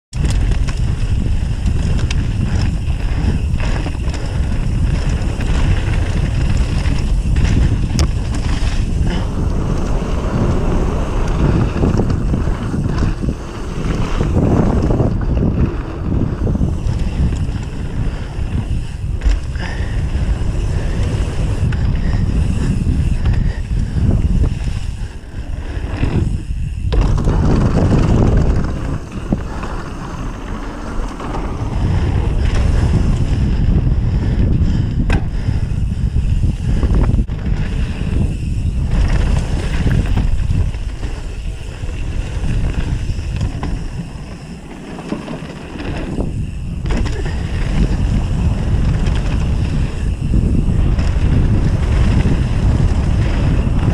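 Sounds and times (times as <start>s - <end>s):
bike knocks and rattles: 0.1s - 53.9s
wind buffeting microphone: 0.1s - 53.9s.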